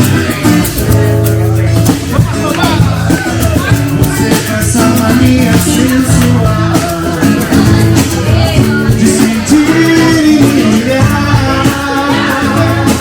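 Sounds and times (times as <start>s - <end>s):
guitar: 0.0s - 13.0s
live band playing: 0.0s - 13.0s
steady beat: 0.0s - 13.0s.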